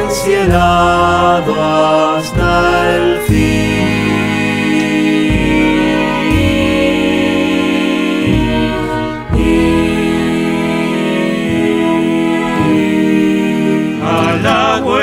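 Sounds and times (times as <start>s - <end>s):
man singing: 0.0s - 10.0s, 11.4s - 15.0s
acoustic guitar: 2.2s - 15.0s.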